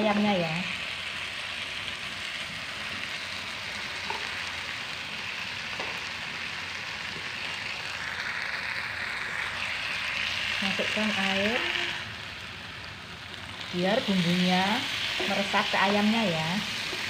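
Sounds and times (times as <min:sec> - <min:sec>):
sauce sizzling in a frying pan: 0:00.0 - 0:17.0.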